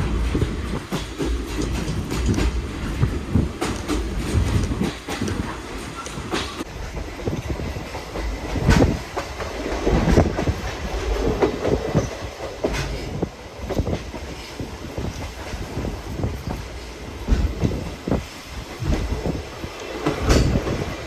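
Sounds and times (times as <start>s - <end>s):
wheels knocking and clacking: 0.0s - 6.7s, 7.3s - 21.0s
train rumbling along track: 0.0s - 21.0s.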